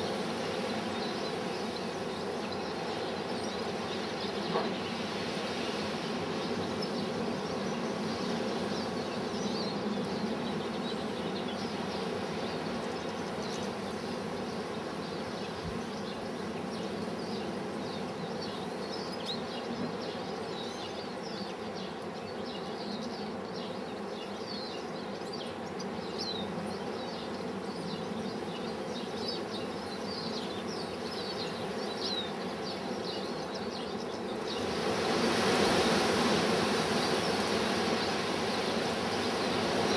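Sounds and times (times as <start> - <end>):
finches twittering: 0.0 - 39.9.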